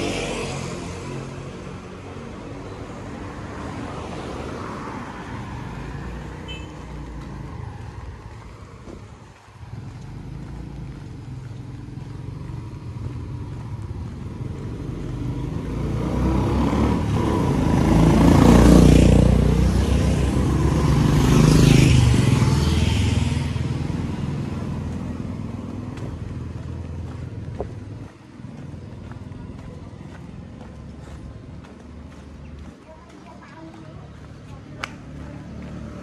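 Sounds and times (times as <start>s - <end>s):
vehicles passing close by: 0.0s - 36.0s.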